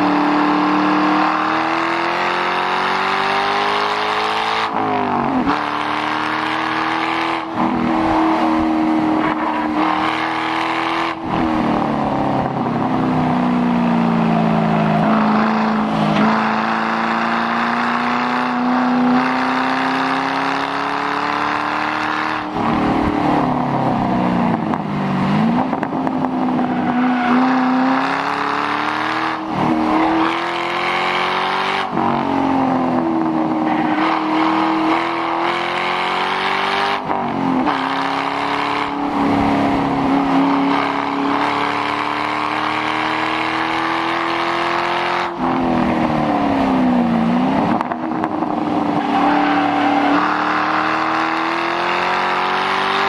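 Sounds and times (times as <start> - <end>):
car engine revving under acceleration: 0.0 - 53.0.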